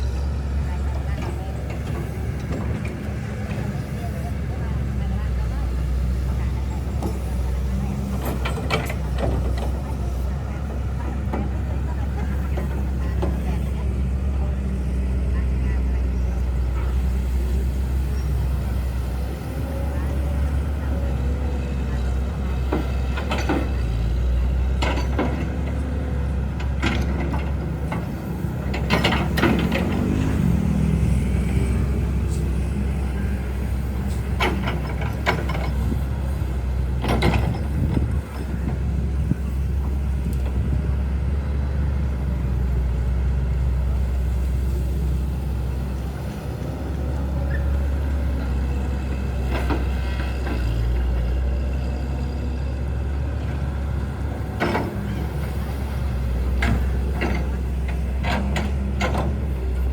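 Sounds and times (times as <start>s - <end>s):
large engine running: 0.0s - 59.9s.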